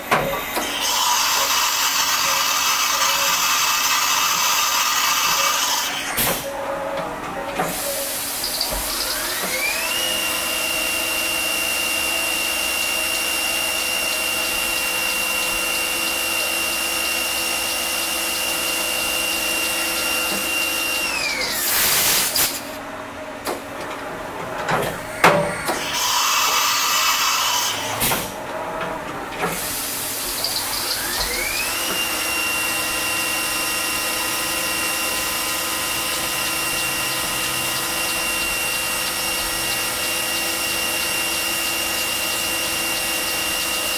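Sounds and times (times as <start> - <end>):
milling machine spindle whine: 0.4 - 6.3, 6.9 - 22.8, 25.0 - 28.2, 29.5 - 43.9.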